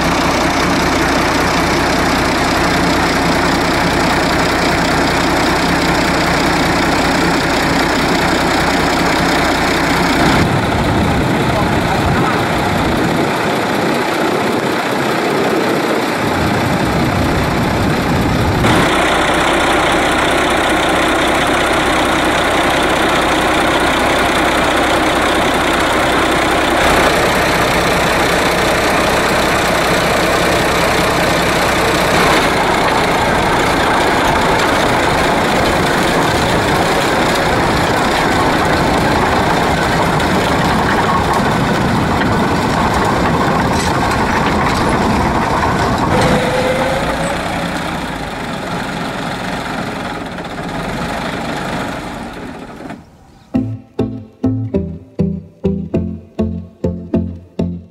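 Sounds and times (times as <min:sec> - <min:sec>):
diesel tractor engine idling: 0:00.0 - 0:57.9.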